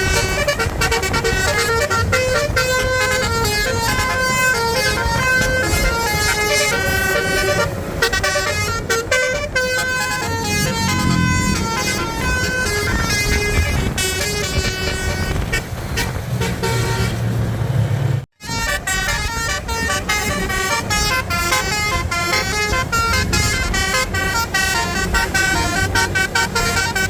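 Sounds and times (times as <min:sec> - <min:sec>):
bus musical horn melody: 0:00.0 - 0:17.4, 0:18.3 - 0:27.0.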